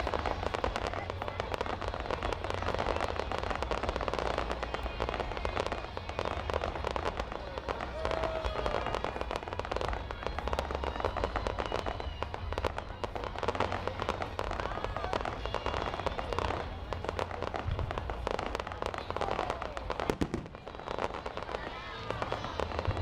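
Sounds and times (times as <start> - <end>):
fireworks crackling and banging: 0.0 - 23.0.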